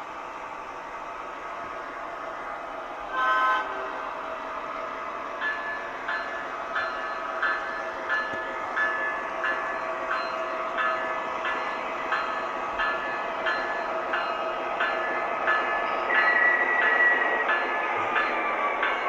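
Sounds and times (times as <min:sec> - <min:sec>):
train wheels clicking on track: 0:03.1 - 0:19.0.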